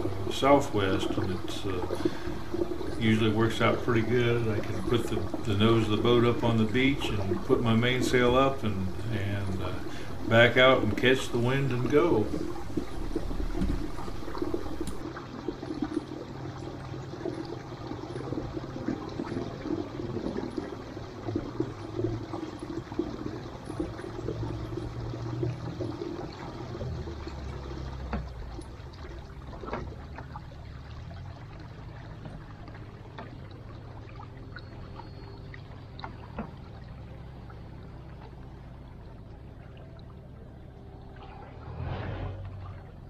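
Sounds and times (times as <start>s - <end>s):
water gurgling along hulls: 0.0s - 43.0s.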